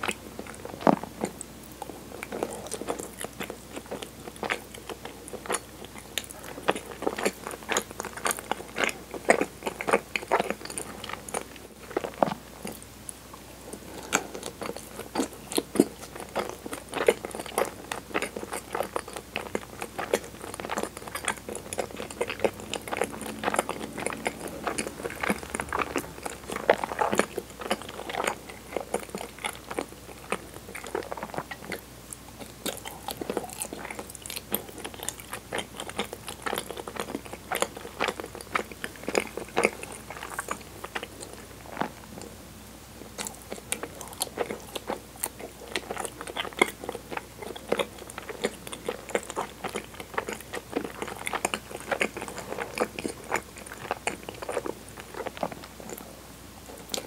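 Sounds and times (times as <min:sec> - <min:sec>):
mouth chewing sticky food: 0:00.0 - 0:57.0.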